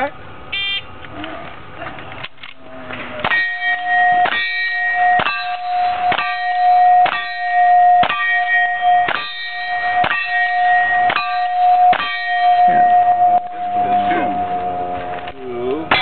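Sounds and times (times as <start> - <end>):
steel plate ringing clang: 3.1 - 16.0.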